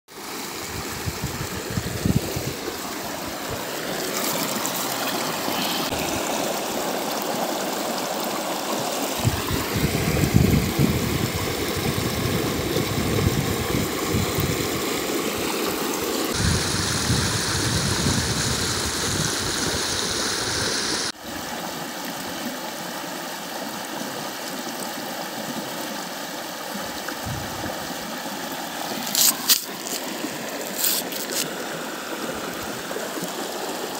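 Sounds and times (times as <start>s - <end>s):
stream rushing over rock: 0.1s - 33.9s.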